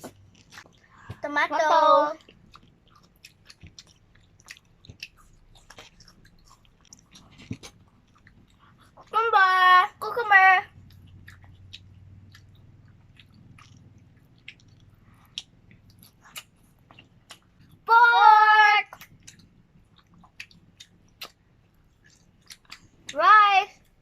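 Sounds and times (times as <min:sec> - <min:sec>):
person chewing food: 0:00.0 - 0:09.2, 0:10.7 - 0:17.9, 0:18.8 - 0:24.0
faint low hum: 0:00.0 - 0:24.0.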